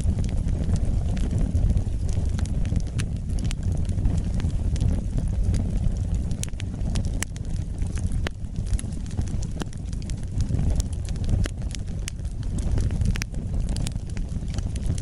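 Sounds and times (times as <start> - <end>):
logs crackling and popping: 0.0 - 15.0
wood fire rumbling: 0.0 - 15.0.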